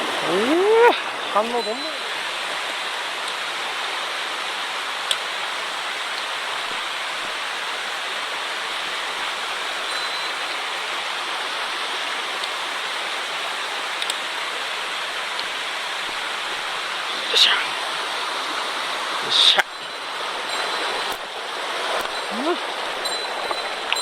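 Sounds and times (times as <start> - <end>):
rushing mountain stream: 0.0 - 24.0.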